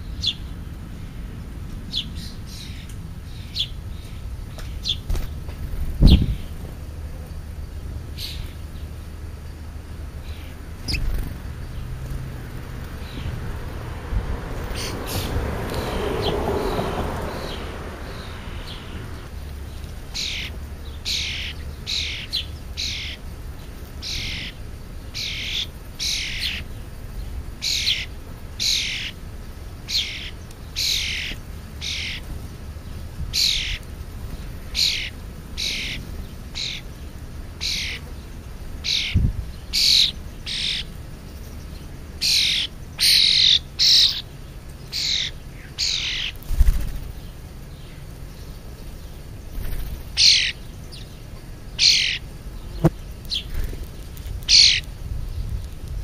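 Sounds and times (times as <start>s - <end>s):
sparrows chirping: 0.0s - 55.8s.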